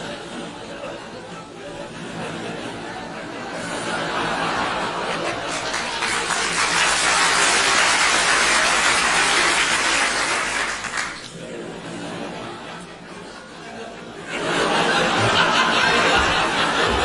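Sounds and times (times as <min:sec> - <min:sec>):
audience laughing: 0:00.0 - 0:17.0.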